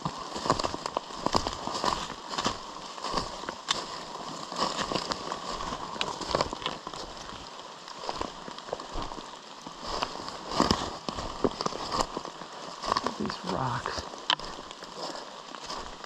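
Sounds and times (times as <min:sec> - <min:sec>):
footsteps in wet undergrowth: 0:00.0 - 0:16.0
steady rain: 0:00.0 - 0:16.0
brush snapping and rustling: 0:00.3 - 0:07.1, 0:09.8 - 0:16.0.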